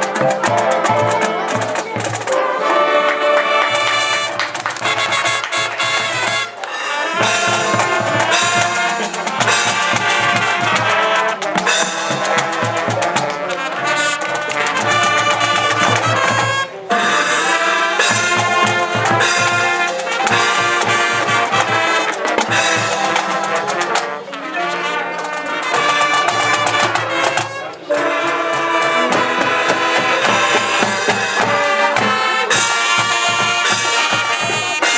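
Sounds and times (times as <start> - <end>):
brass instruments playing: 0.0 - 34.9
marching drums: 0.0 - 34.9.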